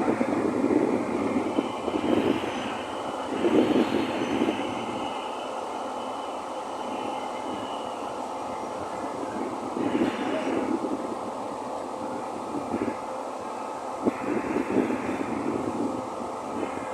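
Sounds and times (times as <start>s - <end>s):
train rail rumble: 0.0s - 16.9s.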